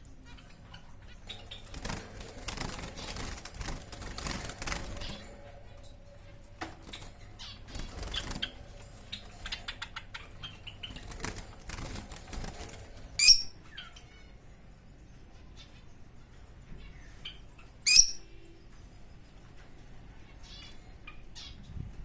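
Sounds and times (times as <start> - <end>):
birds fluttering: 0.0 - 22.0.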